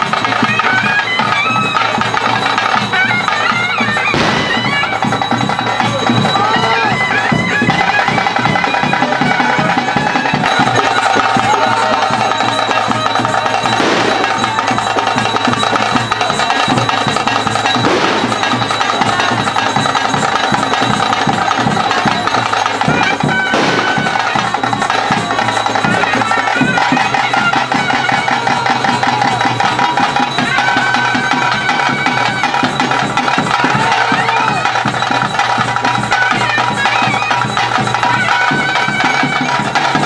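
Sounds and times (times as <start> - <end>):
drums and cymbals: 0.0 - 40.0
shrill double-reed pipe melody: 0.0 - 40.0.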